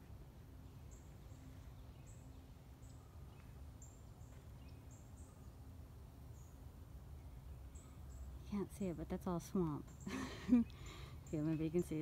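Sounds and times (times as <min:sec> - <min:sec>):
faint bird chirps: 0:00.5 - 0:09.0, 0:09.6 - 0:12.0.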